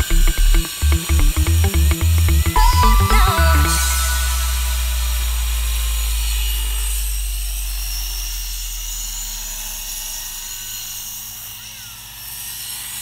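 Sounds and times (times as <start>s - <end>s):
high-pitched motor and gear whine: 0.0s - 13.0s.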